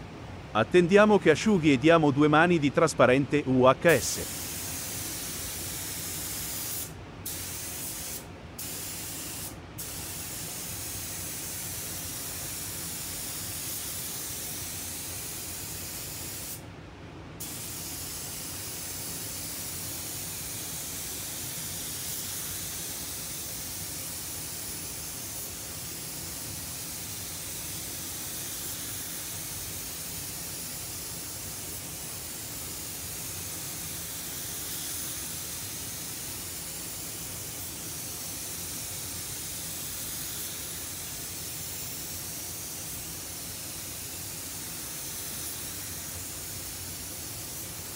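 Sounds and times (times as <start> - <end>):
low background hum: 0.0 - 47.9
spray gun hissing: 3.9 - 16.6, 17.4 - 47.9.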